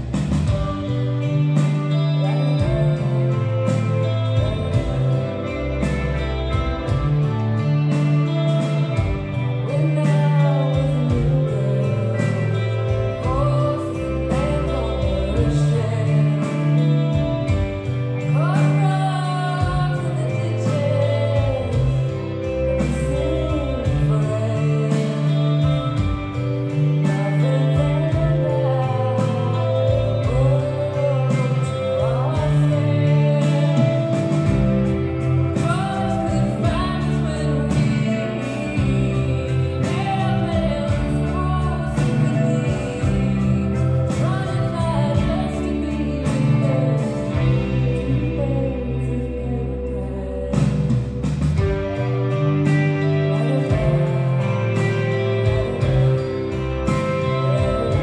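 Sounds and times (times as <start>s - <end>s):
bass guitar: 0.0s - 58.0s
drums: 0.0s - 58.0s
live rock band playing: 0.0s - 58.0s
woman singing: 0.0s - 58.0s.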